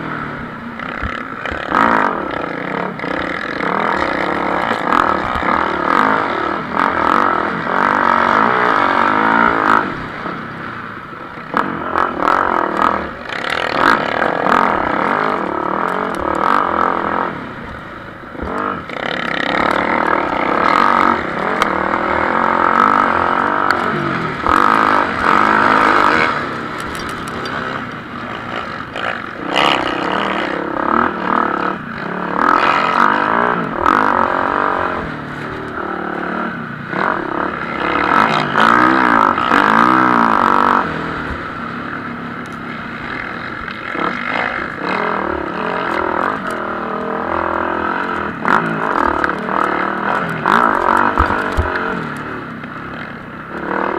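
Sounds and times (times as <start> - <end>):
motocross bikes racing: 0.0 - 53.9.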